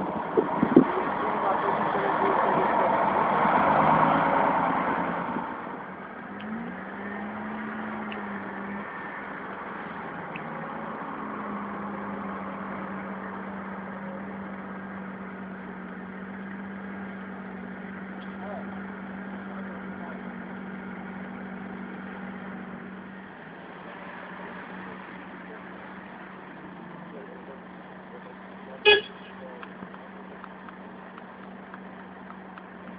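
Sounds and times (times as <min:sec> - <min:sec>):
van engine idling: 0:00.0 - 0:03.8, 0:07.2 - 0:32.9.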